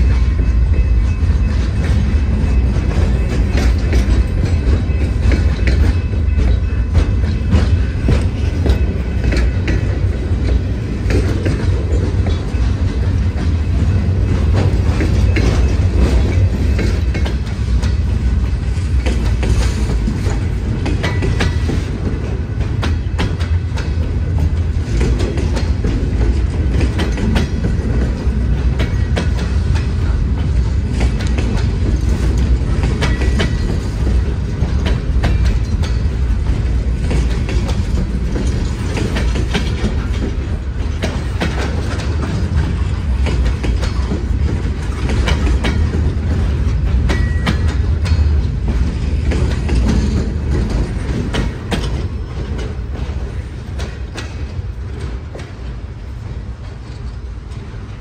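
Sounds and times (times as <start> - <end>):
freight train cars rolling: 0.0 - 58.0
wheels clicking over rail joints: 0.0 - 58.0.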